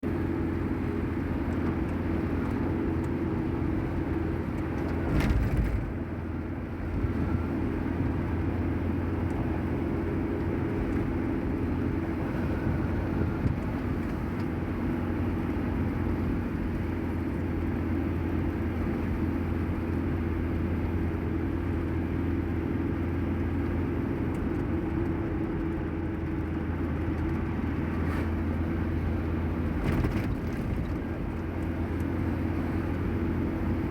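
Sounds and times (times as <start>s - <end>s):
vehicle rumbling: 0.0s - 33.9s.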